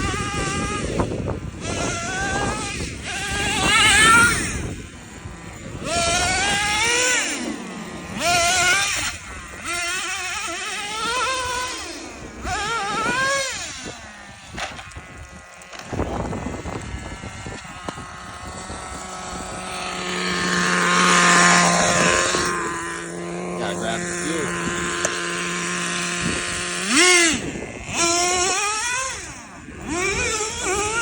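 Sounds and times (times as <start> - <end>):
small nitro engine revving: 0.0 - 31.0.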